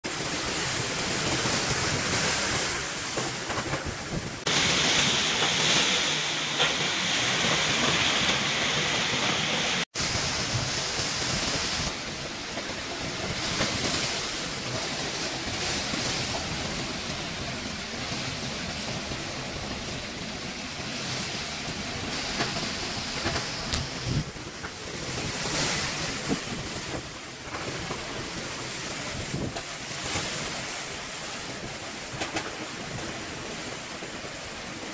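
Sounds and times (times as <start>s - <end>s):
storm wind gusting through plants: 0.0s - 34.9s
wind buffeting the microphone: 0.2s - 6.0s, 10.1s - 34.6s.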